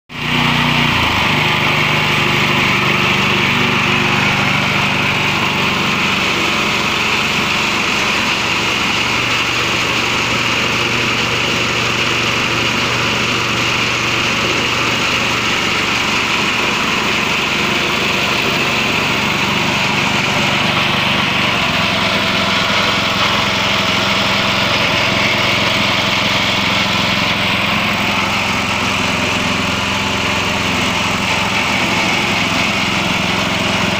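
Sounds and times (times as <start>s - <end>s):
petrol engine running: 0.1s - 33.9s.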